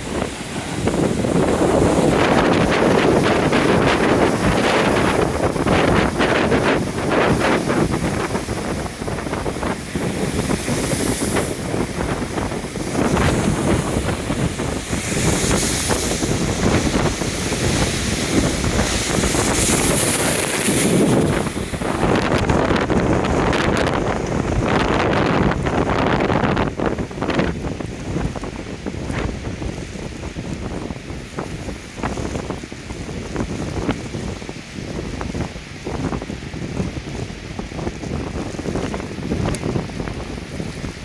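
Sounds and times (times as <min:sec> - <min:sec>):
surf breaking on shore: 0:00.0 - 0:41.0
wind buffeting microphone: 0:00.0 - 0:41.0.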